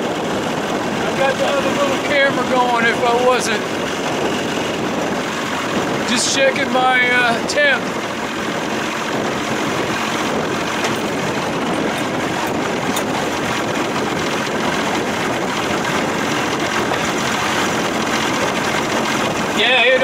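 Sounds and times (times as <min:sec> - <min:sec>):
outboard motor and rushing water: 0:00.0 - 0:20.0.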